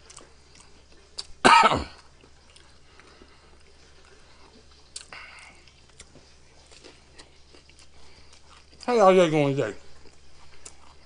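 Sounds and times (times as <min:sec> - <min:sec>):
mouth chewing sandwich: 0:00.0 - 0:09.0, 0:09.8 - 0:11.0.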